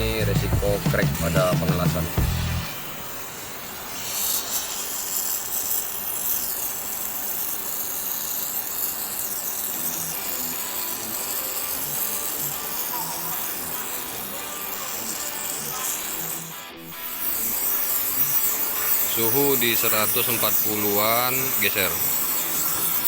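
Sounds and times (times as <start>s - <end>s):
gas torch flame hissing: 0.0s - 23.0s.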